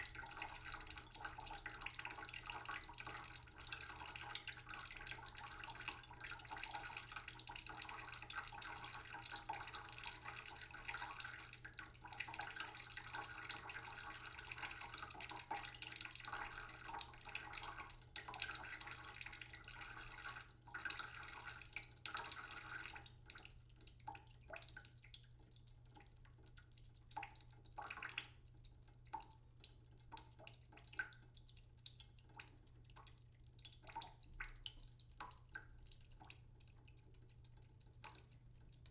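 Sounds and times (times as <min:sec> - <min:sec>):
tap trickling into a pot: 0:00.0 - 0:38.9
water dripping: 0:00.0 - 0:38.9.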